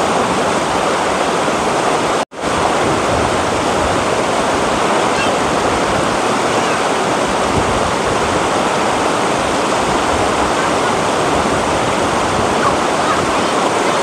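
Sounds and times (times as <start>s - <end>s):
water rushing over stones: 0.0s - 14.0s.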